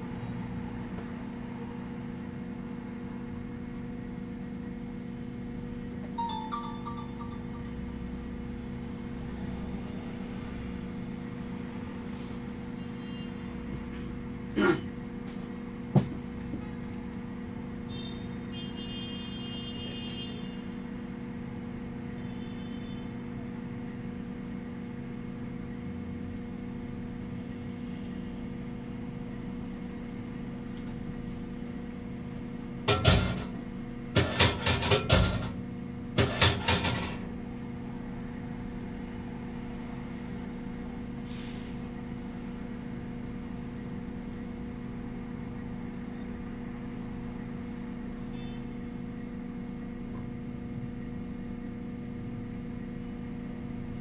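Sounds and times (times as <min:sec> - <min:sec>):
electric bus hum: 0:00.0 - 0:54.0.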